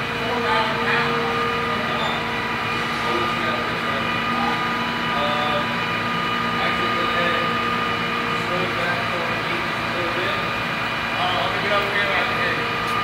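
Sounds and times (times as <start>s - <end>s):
machinery drone with pitched tones: 0.0s - 13.0s.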